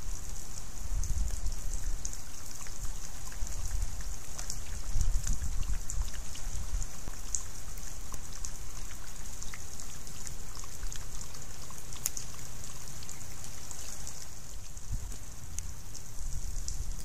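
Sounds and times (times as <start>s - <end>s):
animal lapping water: 1.2s - 17.0s.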